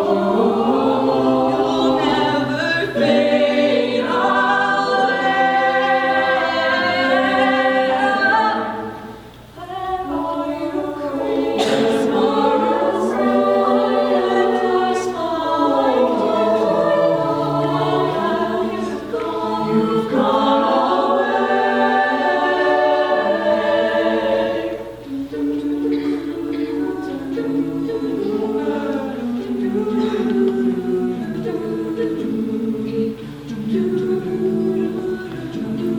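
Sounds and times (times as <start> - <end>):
choir singing a cappella: 0.0 - 35.9.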